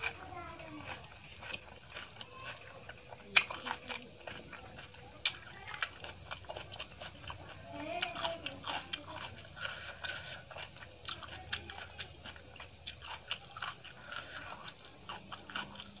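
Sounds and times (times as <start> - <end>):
chewing food: 0.0 - 16.0.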